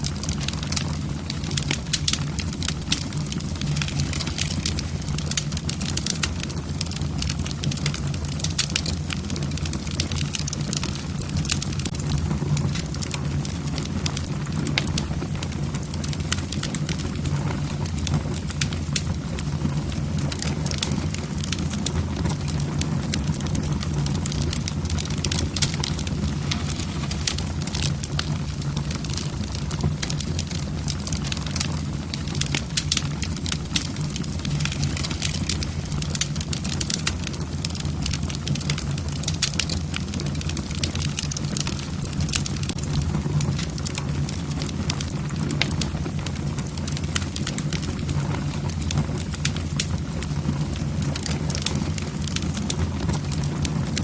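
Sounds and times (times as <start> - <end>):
logs crackling and popping: 0.0 - 54.0.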